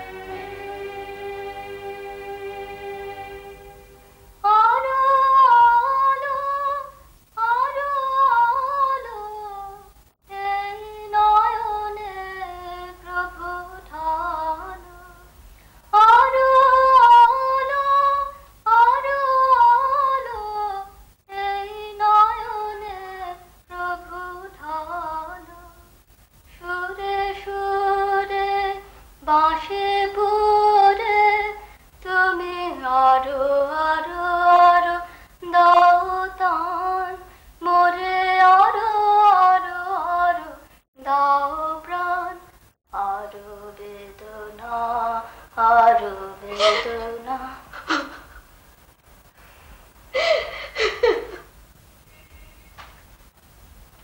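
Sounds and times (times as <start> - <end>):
woman singing unaccompanied: 0.0 - 48.4.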